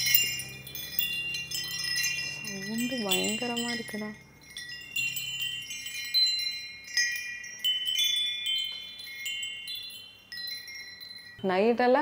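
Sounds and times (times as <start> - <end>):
metal wind chime ringing: 0.0 - 12.0.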